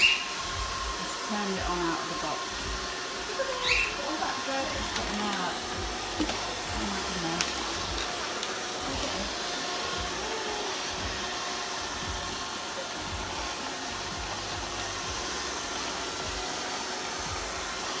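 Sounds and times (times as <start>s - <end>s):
robot vacuum cleaner whirring: 0.0s - 18.0s.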